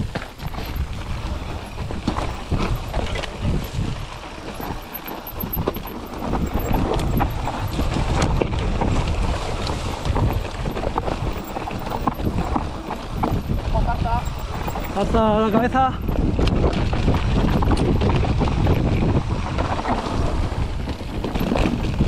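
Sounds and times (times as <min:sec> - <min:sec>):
bike rattling: 0:00.0 - 0:22.0
tyres crunching over dirt: 0:00.0 - 0:22.0
wind buffeting microphone: 0:00.0 - 0:22.0.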